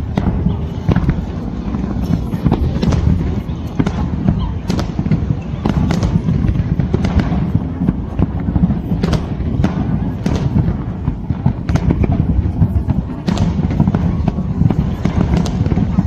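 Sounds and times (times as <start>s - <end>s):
firework bangs: 0.0s - 16.0s
low rumble of firework bursts: 0.0s - 16.0s.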